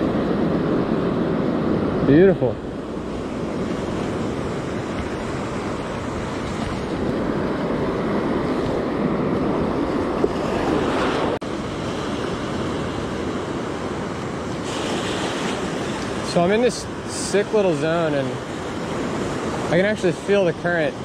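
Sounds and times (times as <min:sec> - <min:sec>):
wind on microphone: 0:00.0 - 0:19.8
ocean waves washing ashore: 0:00.0 - 0:21.0.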